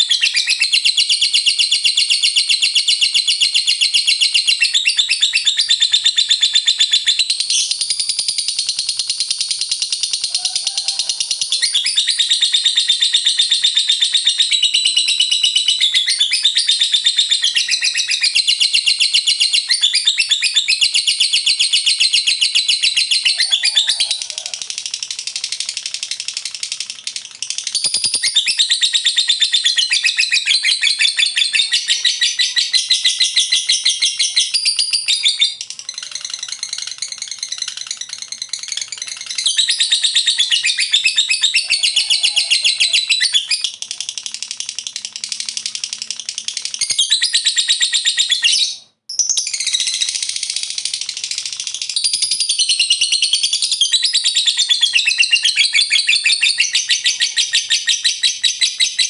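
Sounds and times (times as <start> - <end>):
lovebird chattering trill: 0.0 - 59.0.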